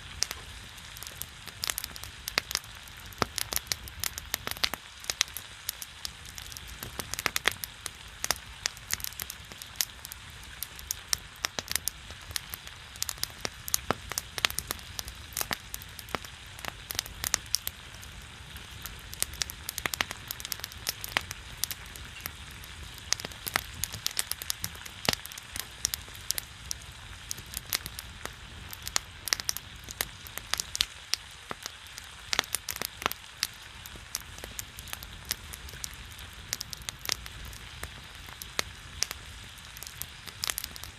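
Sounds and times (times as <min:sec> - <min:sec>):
fat sizzling on a griddle: 0:00.0 - 0:40.9
wood fire crackling: 0:00.0 - 0:40.9.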